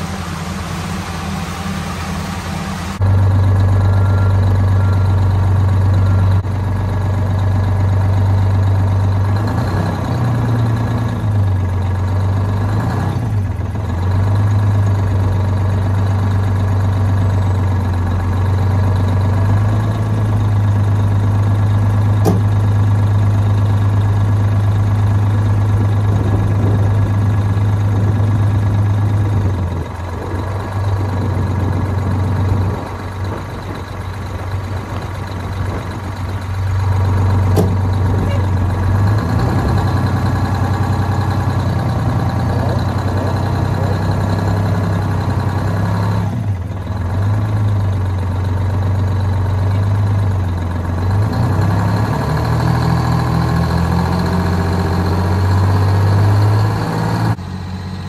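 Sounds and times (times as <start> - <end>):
fire truck engine idling: 0.0 - 9.4, 10.5 - 12.6, 13.4 - 51.3.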